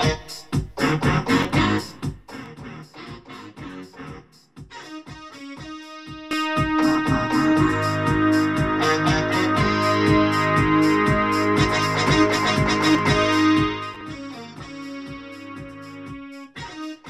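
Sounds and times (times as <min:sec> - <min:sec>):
keyboard-led instrumental music: 0:00.0 - 0:02.2, 0:04.8 - 0:17.0.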